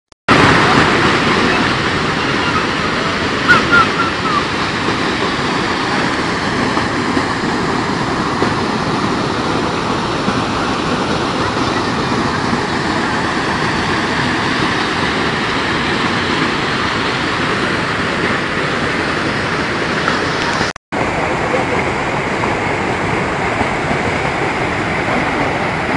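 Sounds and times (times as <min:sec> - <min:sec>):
water rushing over rocks: 0:00.3 - 0:25.9.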